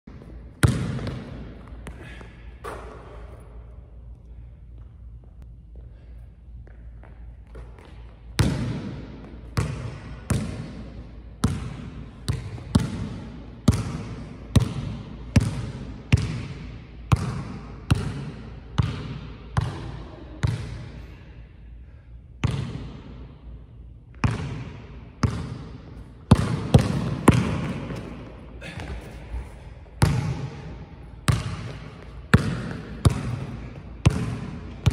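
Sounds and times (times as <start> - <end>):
basketball bouncing on gym floor: 0.1 - 3.2, 6.6 - 21.0, 22.4 - 23.2, 24.1 - 34.9.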